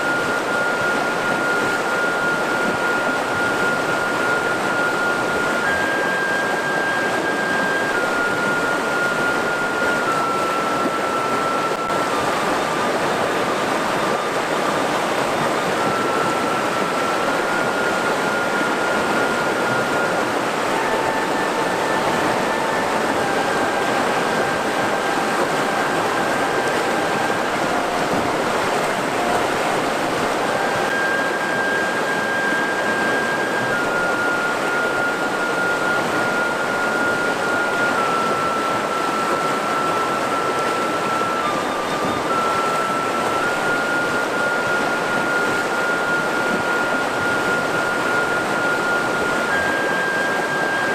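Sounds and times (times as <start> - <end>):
faint steady tones: 0.0 - 50.9
river rushing over rocks: 0.0 - 50.9.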